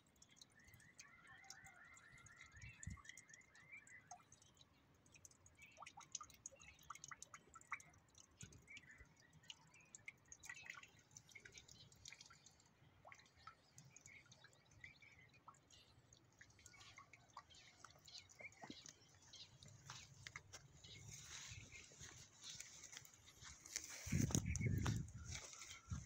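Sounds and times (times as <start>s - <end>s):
donkey sipping water: 0.0s - 26.0s
small water splashes: 0.0s - 26.0s.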